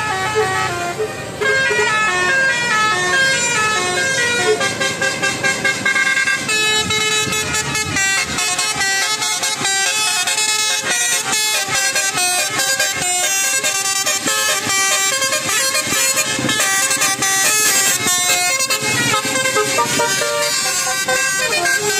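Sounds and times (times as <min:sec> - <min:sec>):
multi-tone bus air horn: 0:00.0 - 0:21.9.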